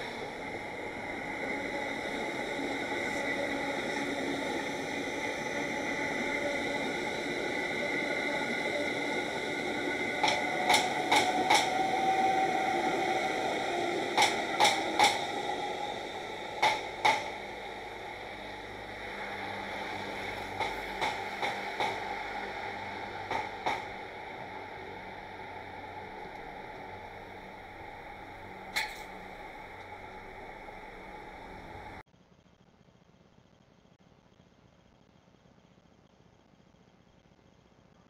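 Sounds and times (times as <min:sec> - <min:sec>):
train passing on track: 0:00.0 - 0:32.0
wheels clacking over rail joints: 0:00.0 - 0:32.0.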